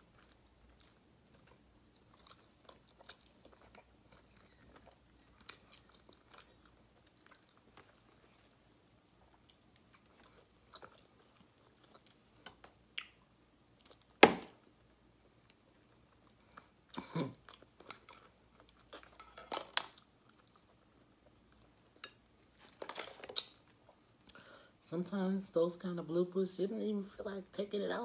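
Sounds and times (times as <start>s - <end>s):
person chewing food: 0.0s - 24.4s.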